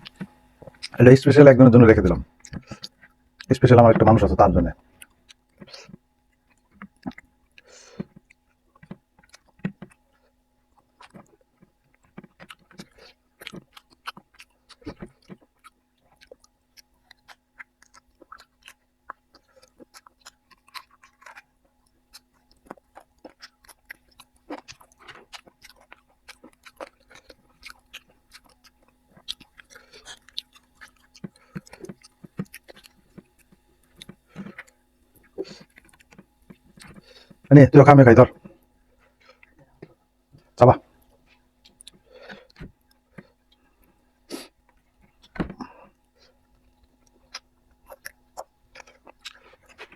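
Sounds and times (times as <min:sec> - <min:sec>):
faint steady hum: 0:00.0 - 0:49.9
man chewing food: 0:00.0 - 0:49.9.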